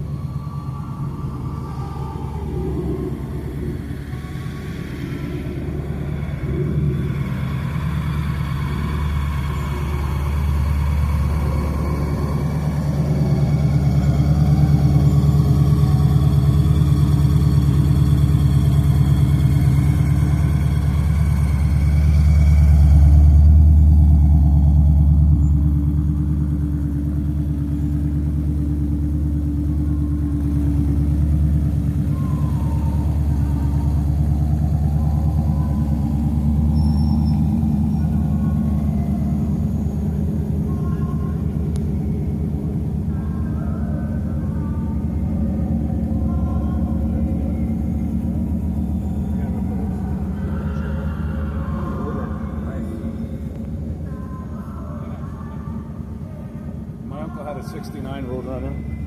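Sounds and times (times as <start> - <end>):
vehicle engine deep rumble: 0.0 - 59.0.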